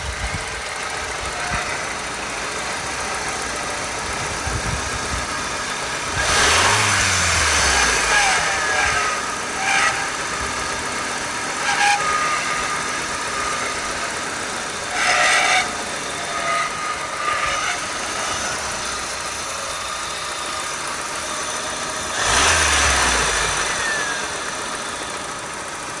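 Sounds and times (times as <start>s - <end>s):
car engine idling and revving: 0.0s - 26.0s
extraneous engine noise: 0.0s - 26.0s.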